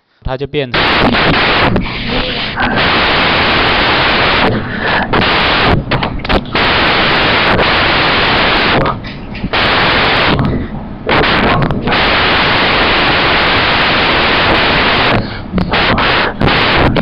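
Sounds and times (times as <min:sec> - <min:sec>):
static hiss: 0:00.3 - 0:17.0.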